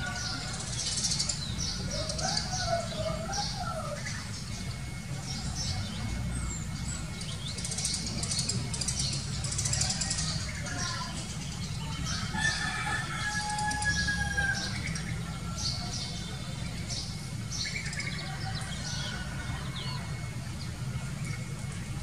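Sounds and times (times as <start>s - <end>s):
birds chirping: 0.0s - 22.0s
drawn-out bird call: 0.0s - 22.0s.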